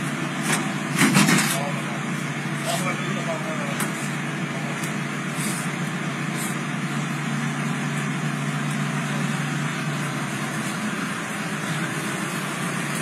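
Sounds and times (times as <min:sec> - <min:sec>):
street noise hiss: 0:00.0 - 0:13.0
vehicle engine running: 0:00.0 - 0:13.0.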